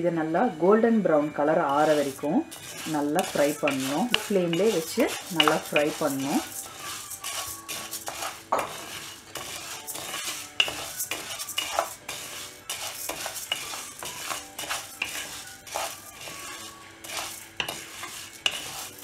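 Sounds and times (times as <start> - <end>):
wooden spatula scraping a pan: 1.6 - 19.0
lentils rattling in a pan: 1.7 - 19.0.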